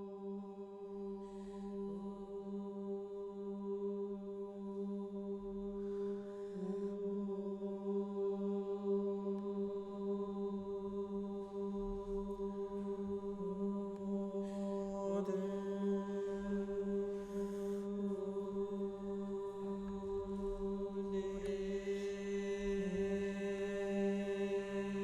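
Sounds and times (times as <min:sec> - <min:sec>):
low chant-like drone: 0:00.0 - 0:25.0.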